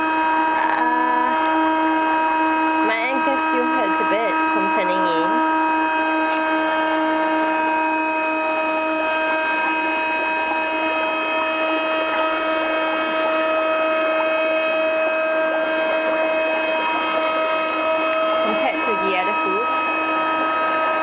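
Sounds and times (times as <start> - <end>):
steady hum with overtones: 0.0 - 21.0.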